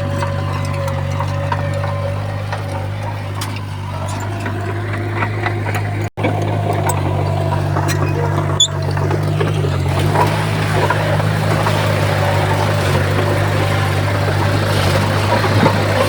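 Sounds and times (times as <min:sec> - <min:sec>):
diesel machinery droning: 0:00.0 - 0:16.0.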